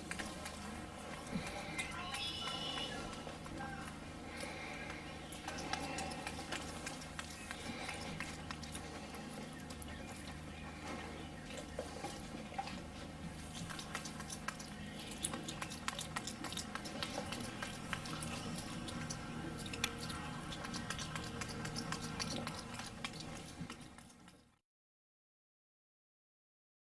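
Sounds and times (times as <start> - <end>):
monkey chewing with lips smacking: 0.0 - 24.6.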